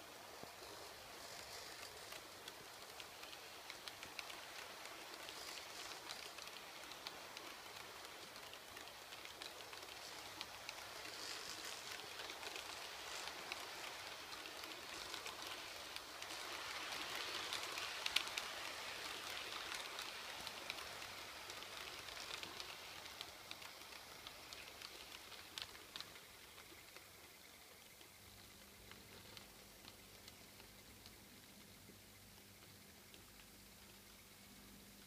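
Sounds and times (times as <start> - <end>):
model train wheels rushing on rail: 0.0 - 35.0.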